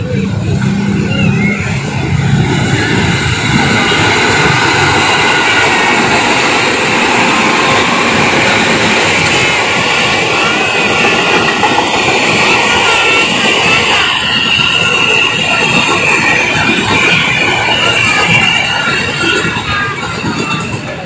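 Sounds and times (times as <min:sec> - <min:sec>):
train wheels rolling on rails: 0:00.0 - 0:21.0.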